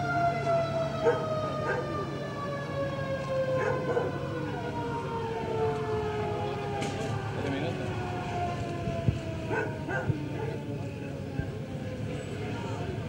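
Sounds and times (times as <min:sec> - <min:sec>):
siren wailing falling in pitch: 0:00.0 - 0:10.9.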